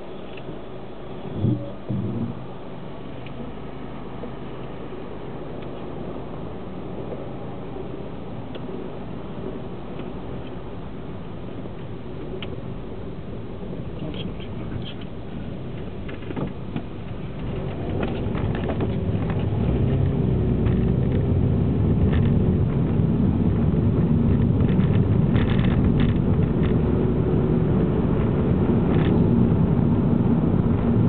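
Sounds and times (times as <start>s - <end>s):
car engine and road noise inside cabin: 0.0s - 31.0s.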